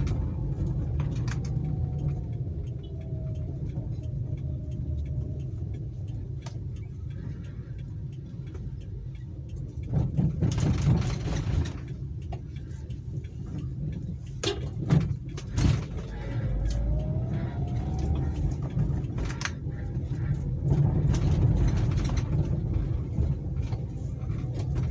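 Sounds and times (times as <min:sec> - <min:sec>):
car engine and road rumble: 0:00.0 - 0:24.9.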